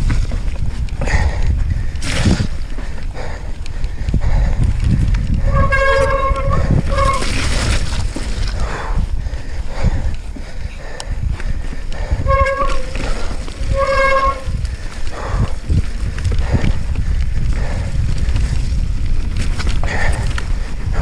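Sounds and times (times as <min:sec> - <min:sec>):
bike tyres over bumpy ground: 0:00.0 - 0:21.0
wind on microphone: 0:00.0 - 0:21.0.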